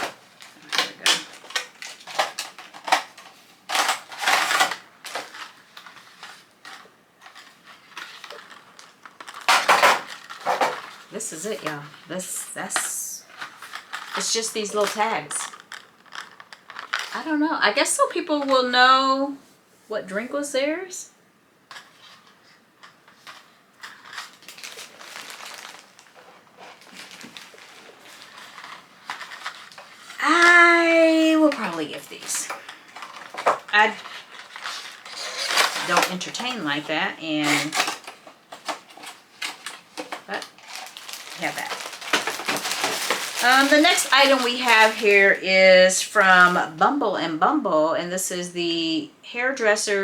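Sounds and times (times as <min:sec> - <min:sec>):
packaging rustling and crinkling: 0:00.0 - 0:17.4, 0:21.7 - 0:46.8.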